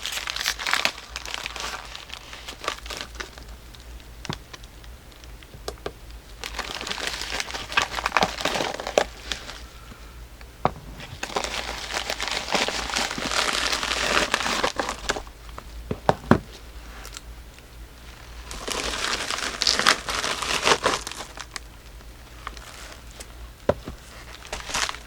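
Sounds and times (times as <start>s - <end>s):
packing material crinkling: 0.0s - 5.5s, 6.3s - 10.0s, 10.8s - 17.3s, 18.0s - 25.0s.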